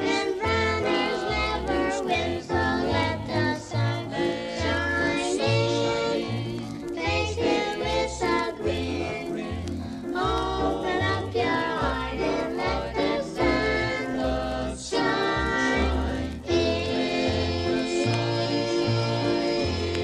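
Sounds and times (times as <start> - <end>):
children singing gospel song: 0.0 - 20.0
instrumental accompaniment: 0.0 - 20.0.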